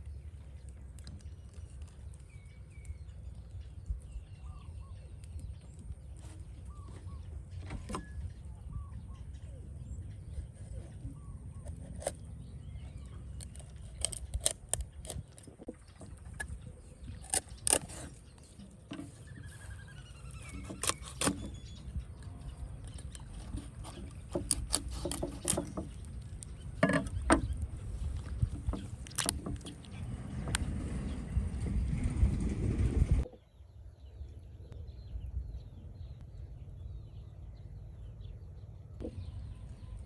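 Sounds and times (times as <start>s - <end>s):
low steady rumble: 0.0s - 40.0s.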